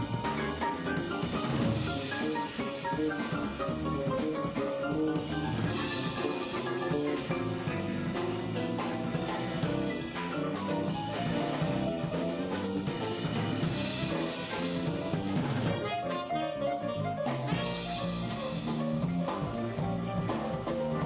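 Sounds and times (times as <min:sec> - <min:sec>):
drum kit keeping time: 0:00.0 - 0:21.0
jazz quartet playing: 0:00.0 - 0:21.0.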